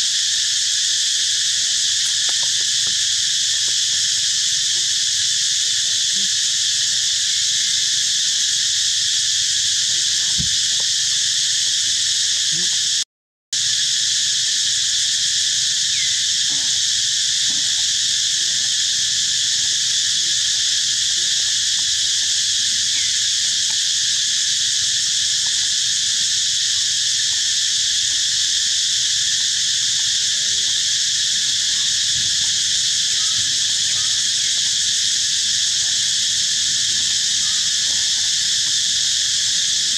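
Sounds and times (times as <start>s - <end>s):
insects chorus: 0.0s - 13.0s, 13.6s - 39.9s.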